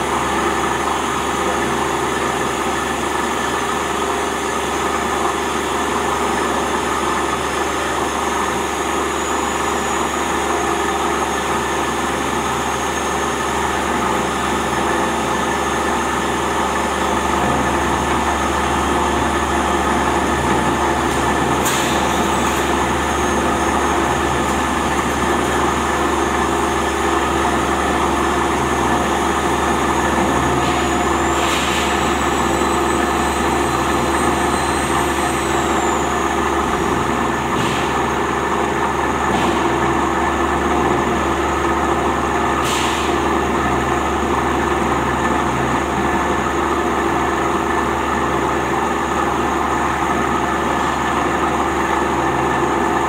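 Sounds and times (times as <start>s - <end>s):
grinding machine humming: 0.0s - 42.6s.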